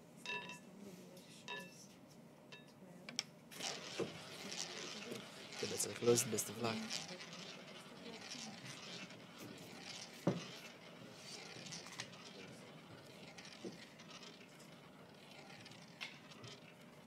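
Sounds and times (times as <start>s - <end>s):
roulette ball rolling: 3.1s - 17.0s.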